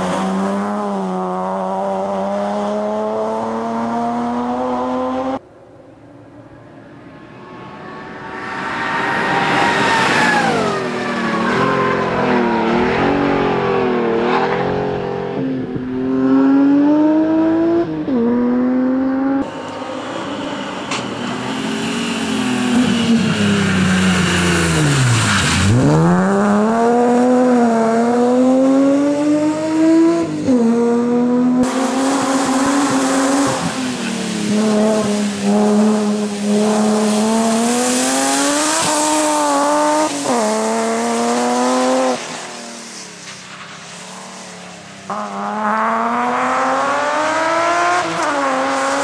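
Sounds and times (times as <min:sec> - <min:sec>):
rally car engine revving: 0:00.0 - 0:05.4, 0:07.9 - 0:19.5, 0:21.1 - 0:44.0, 0:45.1 - 0:49.0.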